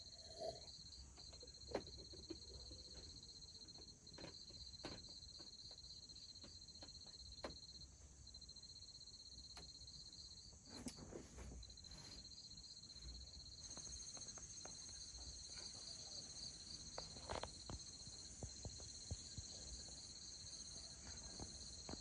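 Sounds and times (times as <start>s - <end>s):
faint insects trilling: 0.0s - 22.0s.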